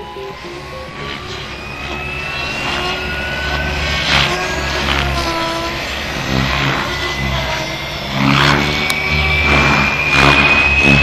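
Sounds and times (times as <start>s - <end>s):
jet turbine whine: 0.0s - 11.0s
low rumble: 0.0s - 11.0s.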